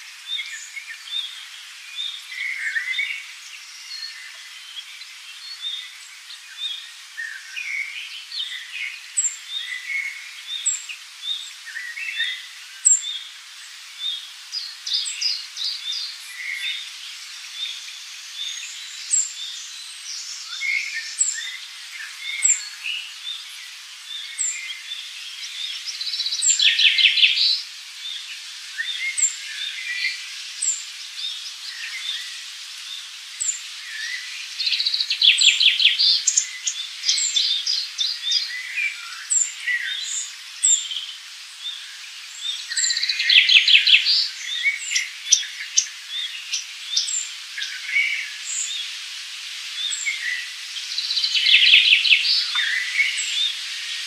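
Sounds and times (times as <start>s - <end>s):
rapid trilling birdsong: 0.0s - 54.0s.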